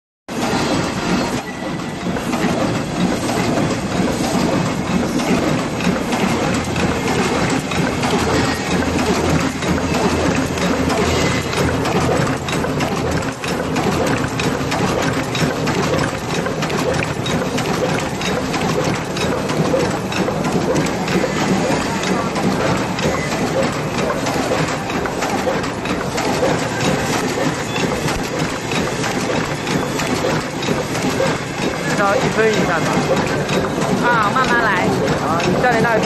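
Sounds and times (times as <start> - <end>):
paper cup machine clattering: 0.3 - 36.0.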